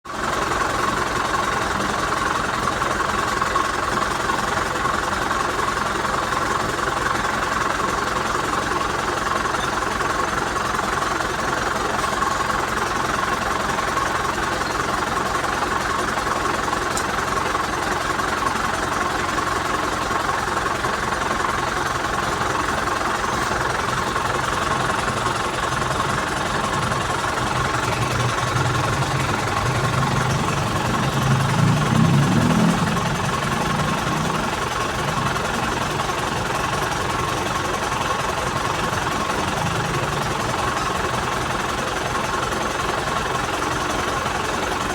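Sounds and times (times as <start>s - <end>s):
car engine running: 0.1s - 44.9s.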